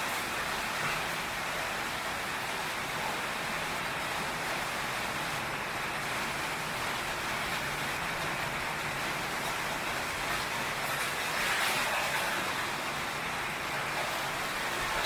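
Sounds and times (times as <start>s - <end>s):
heavy rain on a tin roof: 0.0s - 15.0s.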